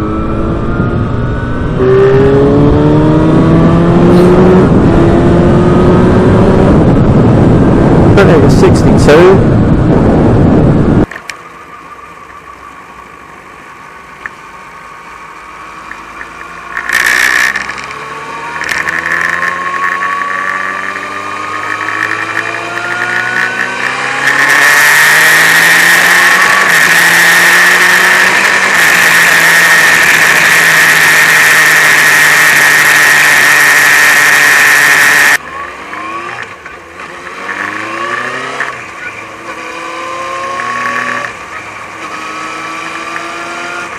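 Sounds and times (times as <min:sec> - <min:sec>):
motorcycle engine accelerating: 0:00.0 - 0:11.1, 0:15.0 - 0:43.9.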